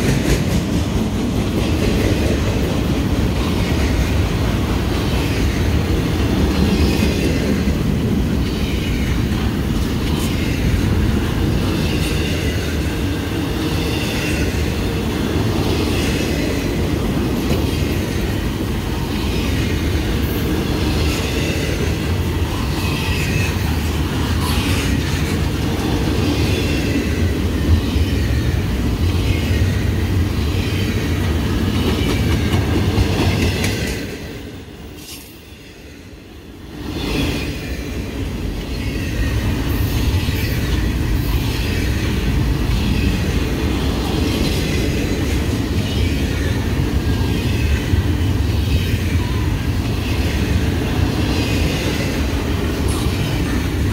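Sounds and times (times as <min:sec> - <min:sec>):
freight train wheels rumbling: 0:00.0 - 0:53.9.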